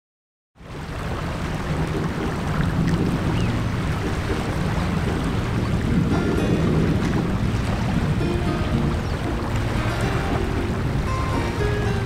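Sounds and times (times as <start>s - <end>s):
waves washing on shore: 0.6s - 12.0s
wind buffeting microphone: 0.6s - 12.0s.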